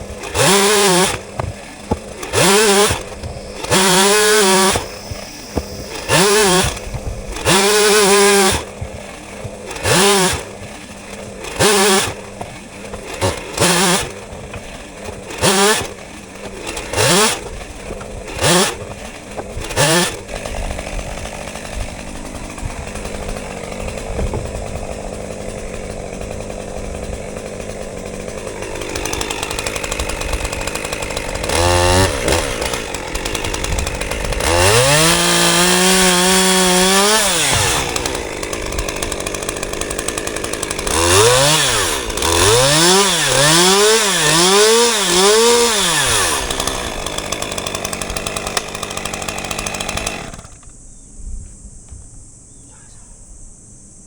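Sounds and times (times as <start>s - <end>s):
chainsaw revving: 0.0s - 50.7s.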